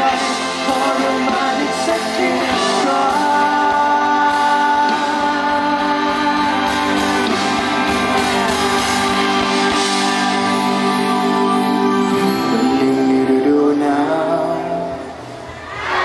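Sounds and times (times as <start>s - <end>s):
man singing long notes: 0.0s - 7.4s, 9.8s - 15.4s
live band music: 0.0s - 15.7s.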